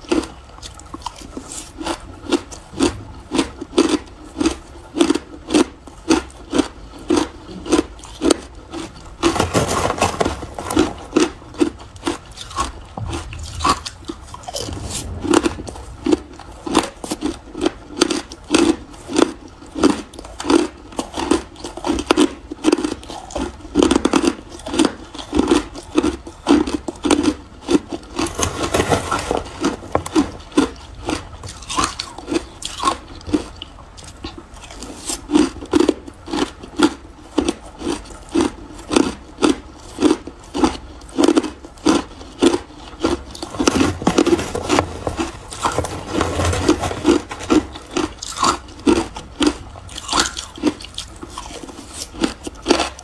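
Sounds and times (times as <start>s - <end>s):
ice being chewed: 0.0s - 53.0s.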